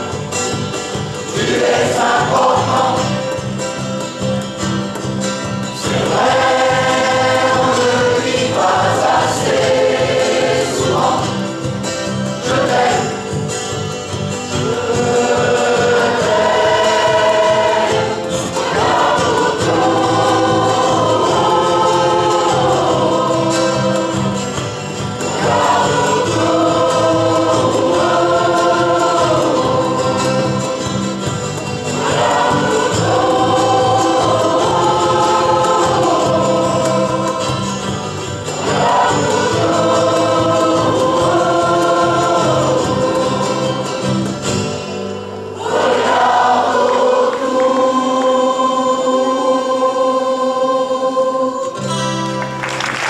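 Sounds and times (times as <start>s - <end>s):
mixed choir singing: 0.0s - 52.1s
guitars: 0.0s - 53.0s.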